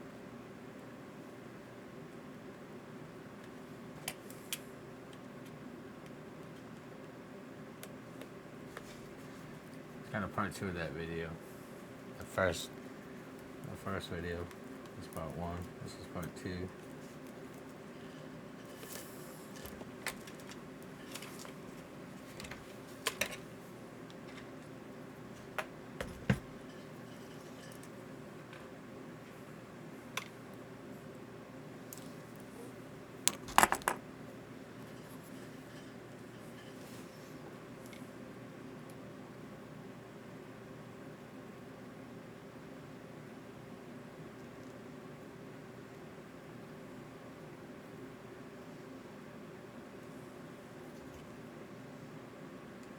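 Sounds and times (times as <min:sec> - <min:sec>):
low background hum: 0:00.0 - 0:52.9.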